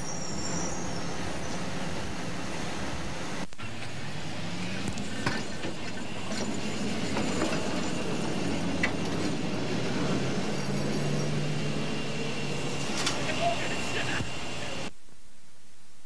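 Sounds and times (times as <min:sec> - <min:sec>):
steel wheels rolling on rail: 0:00.0 - 0:14.9.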